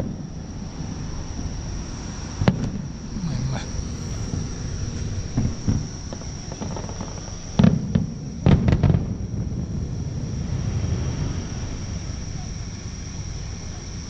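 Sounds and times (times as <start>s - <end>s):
distant fireworks bangs: 0.0s - 13.9s
high insect trill: 0.0s - 14.0s.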